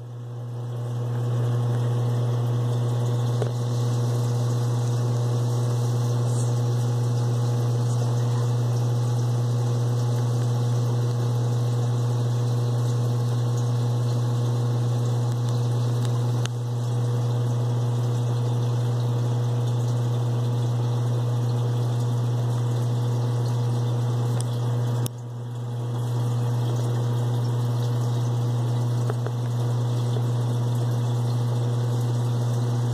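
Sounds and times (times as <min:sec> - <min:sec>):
aquarium pump humming: 0:00.0 - 0:32.9.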